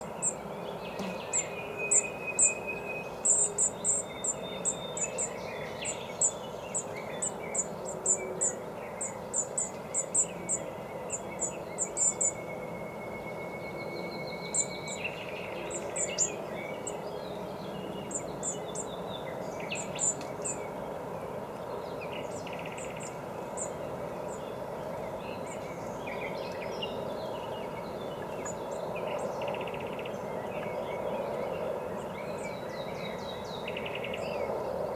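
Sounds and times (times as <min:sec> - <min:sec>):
songbirds calling: 0:00.0 - 0:34.9.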